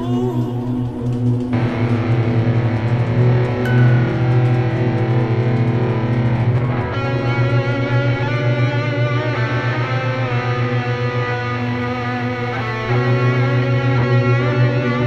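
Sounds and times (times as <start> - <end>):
distorted pedal steel guitar: 0.0 - 15.0.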